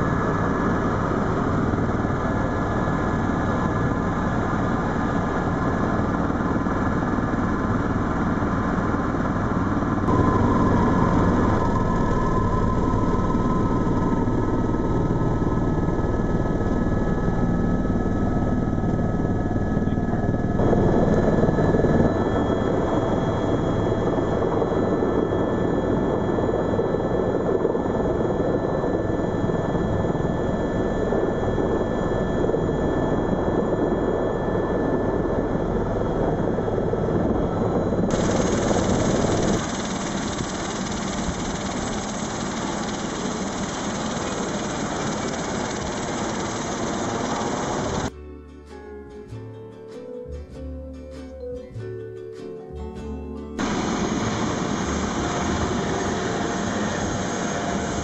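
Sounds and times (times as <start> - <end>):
helicopter turbine and rotor: 0.0 - 48.1, 53.6 - 58.0.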